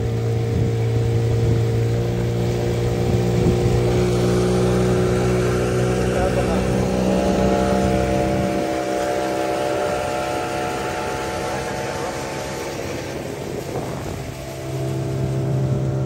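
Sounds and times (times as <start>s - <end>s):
outboard motor running: 0.0s - 16.0s
water rushing from wake: 0.0s - 16.0s.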